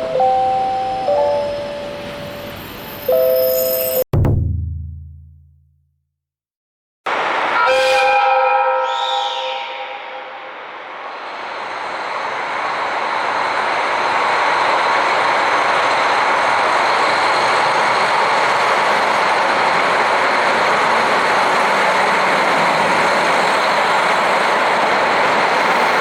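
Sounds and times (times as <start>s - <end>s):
train running on rails: 0.0s - 4.0s, 7.1s - 26.0s.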